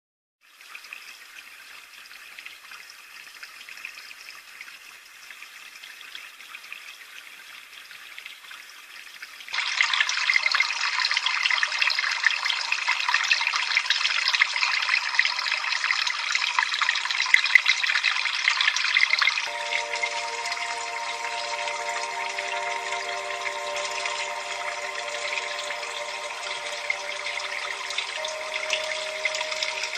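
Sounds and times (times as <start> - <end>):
water trickling and splashing: 0.4 - 29.9.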